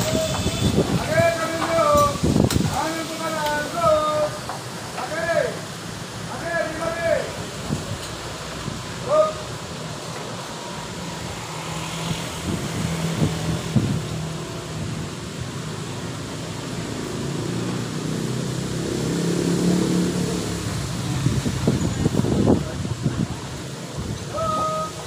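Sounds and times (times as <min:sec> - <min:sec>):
vehicle engines passing: 0:00.0 - 0:25.0
wind through tree leaves: 0:00.0 - 0:25.0.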